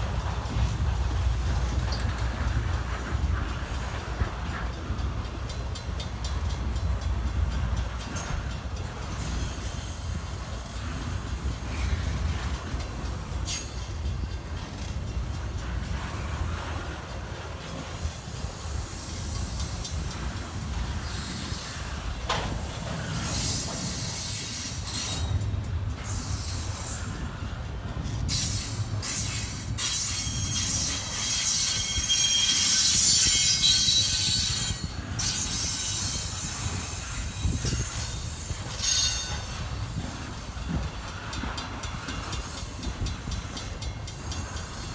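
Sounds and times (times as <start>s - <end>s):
freight train rumbling: 0.0s - 44.9s
train wheels squealing: 0.0s - 44.9s.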